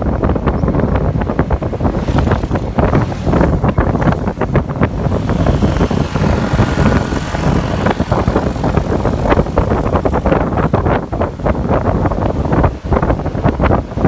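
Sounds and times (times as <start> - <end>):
car engine: 0.0 - 14.0
road noise: 0.0 - 14.0
wind buffeting microphone: 0.0 - 14.0.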